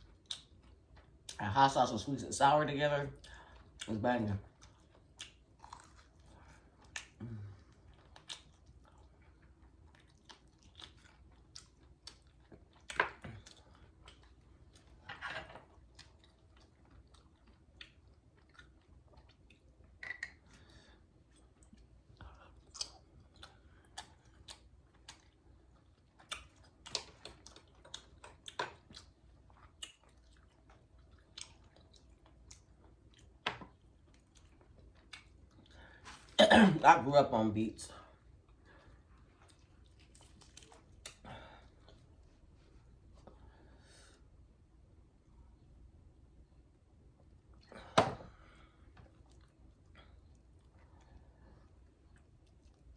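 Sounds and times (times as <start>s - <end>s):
chewing crispy fried chicken: 0.0s - 36.4s, 37.8s - 44.3s, 47.0s - 52.9s.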